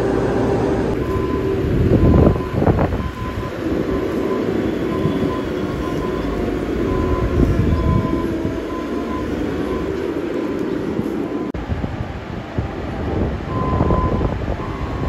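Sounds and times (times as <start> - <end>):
diesel machinery engine drone: 0.0 - 15.0
held machine whine: 0.0 - 15.0.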